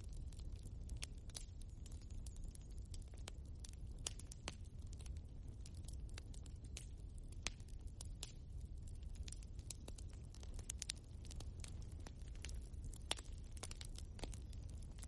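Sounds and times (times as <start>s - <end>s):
burning logs snapping and popping: 0.0s - 15.0s
low rumble of flame: 0.0s - 15.0s.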